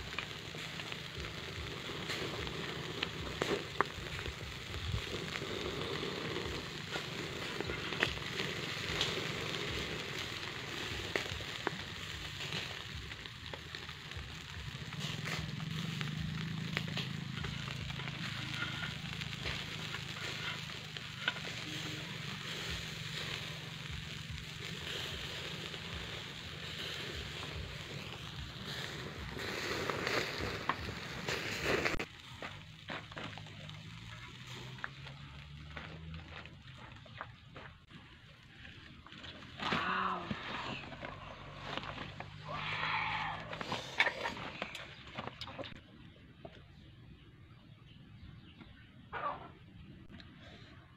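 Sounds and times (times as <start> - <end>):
fish sizzling on charcoal grill: 0.0 - 37.7, 38.4 - 45.8
charcoal pops and crackles: 0.0 - 38.0, 38.9 - 45.8.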